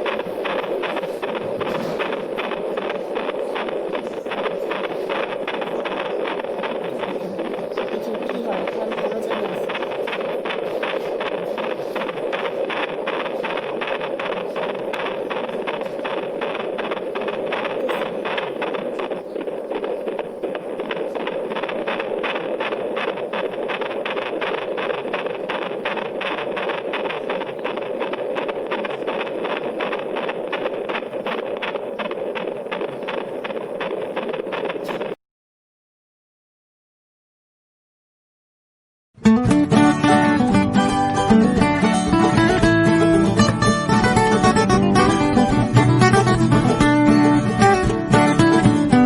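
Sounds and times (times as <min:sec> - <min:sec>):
constant hiss: 0:00.0 - 0:35.2, 0:39.6 - 0:49.0
fetal heartbeat whooshing pulses: 0:00.0 - 0:35.2, 0:39.4 - 0:49.0.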